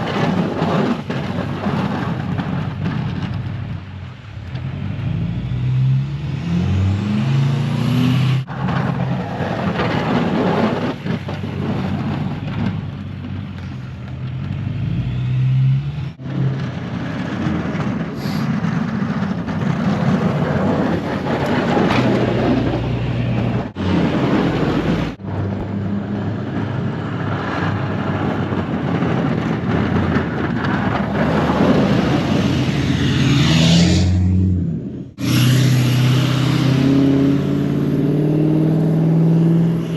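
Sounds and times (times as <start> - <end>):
truck engine revving: 0.0 - 13.6, 14.2 - 39.9.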